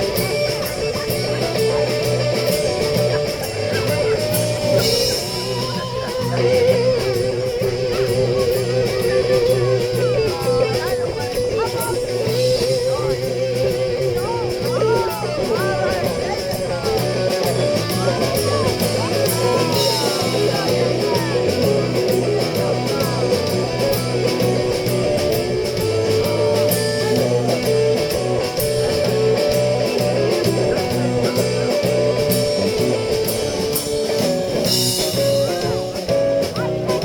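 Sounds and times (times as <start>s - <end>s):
drum beat: 0.0s - 37.0s
electric guitar: 0.0s - 37.0s
rock band playing: 0.0s - 37.0s.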